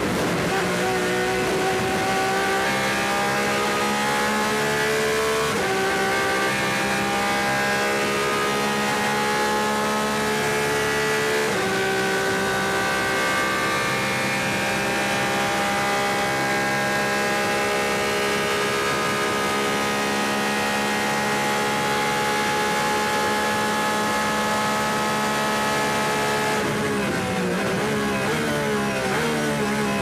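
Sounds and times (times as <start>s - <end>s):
racing engine at full throttle: 0.0s - 30.0s.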